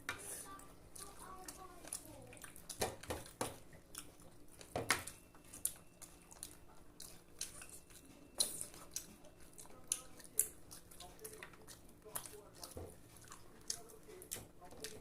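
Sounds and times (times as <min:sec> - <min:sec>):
chewing and biting: 0:01.0 - 0:15.0.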